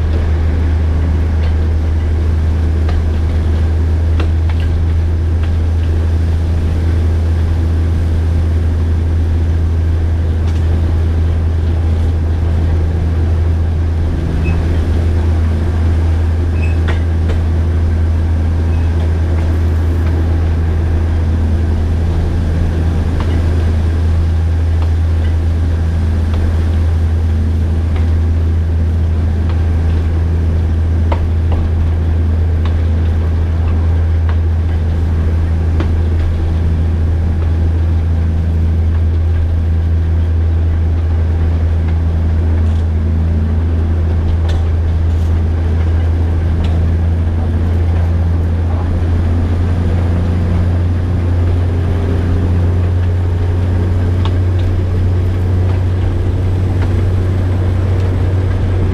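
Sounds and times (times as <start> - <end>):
diesel locomotive engine drone: 0.0 - 58.9
faint train clicks: 0.0 - 58.9.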